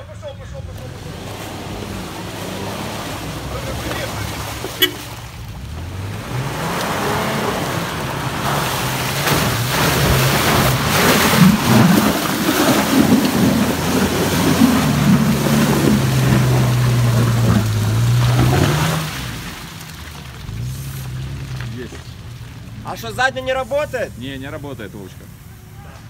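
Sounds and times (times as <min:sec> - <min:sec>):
off-road vehicle engine under load: 0:00.0 - 0:26.0
splashing through mud and water: 0:00.5 - 0:25.8.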